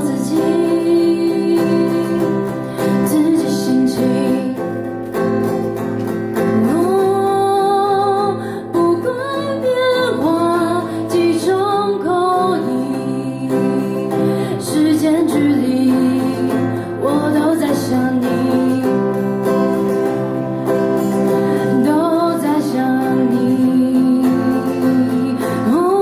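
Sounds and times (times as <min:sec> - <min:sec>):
person singing: 0:00.0 - 0:05.1, 0:06.4 - 0:20.1, 0:21.1 - 0:26.0
guitar accompaniment: 0:00.0 - 0:26.0.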